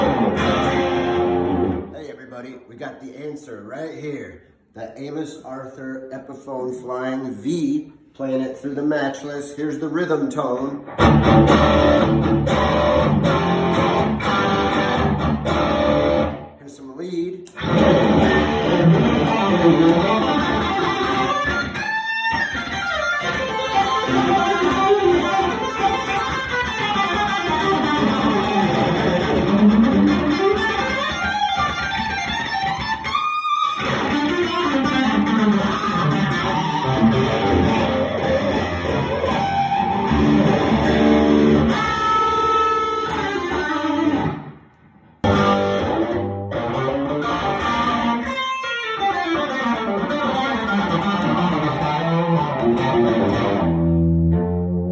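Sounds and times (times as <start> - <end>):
electric guitar playing chords: 0.0 - 1.9, 10.8 - 16.6, 17.5 - 54.9.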